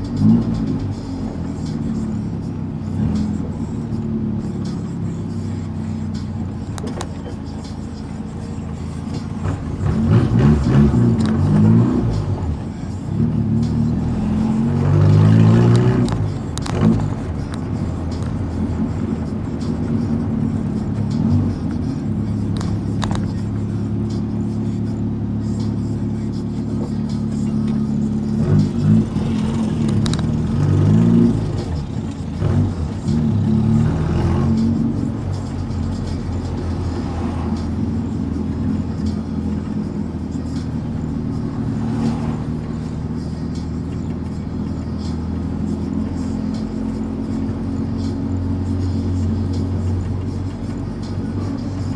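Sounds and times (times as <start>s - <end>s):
car engine revving through loud exhaust: 0.0s - 51.9s.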